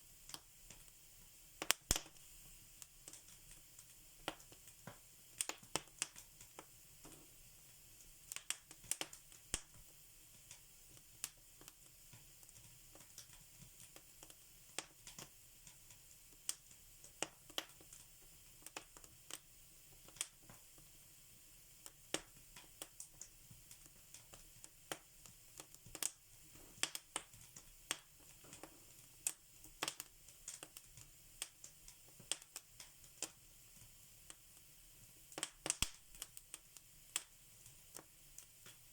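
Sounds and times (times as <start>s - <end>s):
faint steady hiss: 0.0s - 38.9s
wood fire crackling: 0.0s - 38.9s
sharp pops and snaps: 0.2s - 21.0s, 21.7s - 38.9s.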